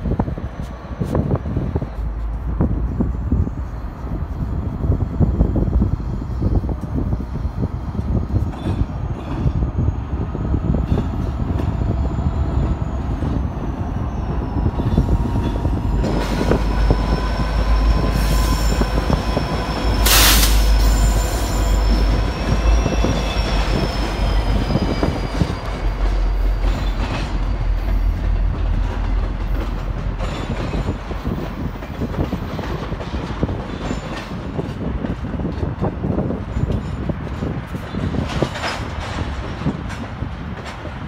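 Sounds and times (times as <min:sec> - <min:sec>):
freight train rumble: 0:00.0 - 0:41.0
train wheel squeal: 0:00.4 - 0:34.9, 0:36.0 - 0:39.8.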